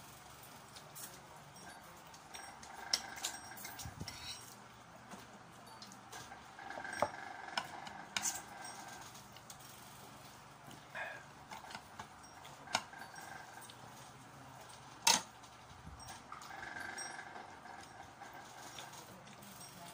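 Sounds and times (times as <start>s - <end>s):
utensils clinking on plates: 0.7s - 19.9s.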